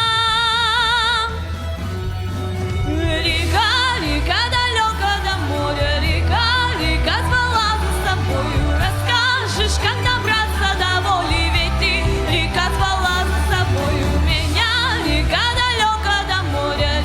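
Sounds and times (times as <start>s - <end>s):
pop backing track with bass: 0.0s - 17.0s
wordless singing with vibrato: 0.0s - 17.0s.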